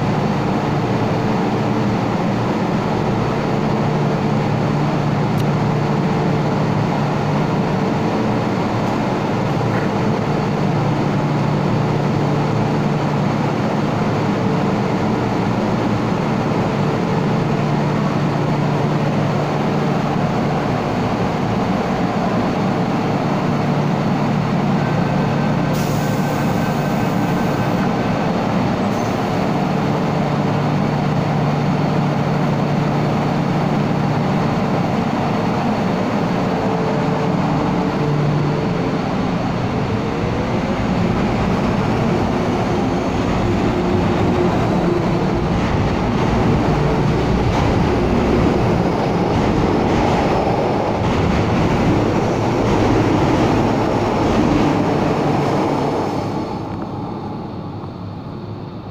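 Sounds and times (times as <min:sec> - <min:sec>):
train doors closing: 0:00.0 - 0:58.6
train humming: 0:00.0 - 0:58.9.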